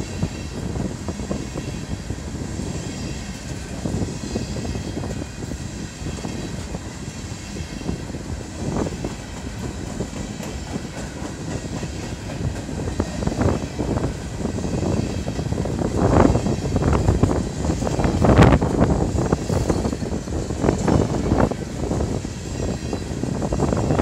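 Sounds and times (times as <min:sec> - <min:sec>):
freight train wheels clattering: 0:00.0 - 0:24.0.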